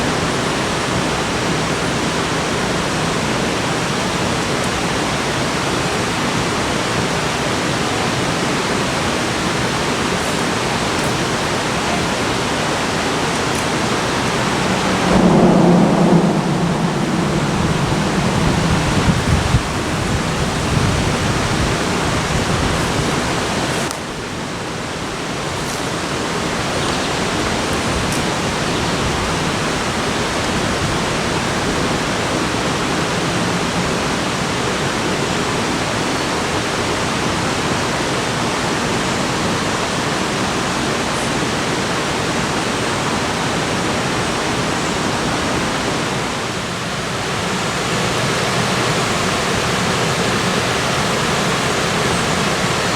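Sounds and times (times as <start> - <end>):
water rushing: 0.0 - 52.9.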